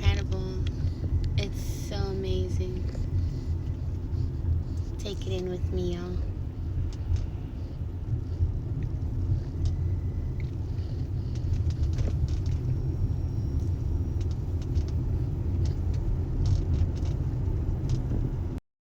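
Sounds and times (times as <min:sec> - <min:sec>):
car driving rumble: 0:00.0 - 0:18.6.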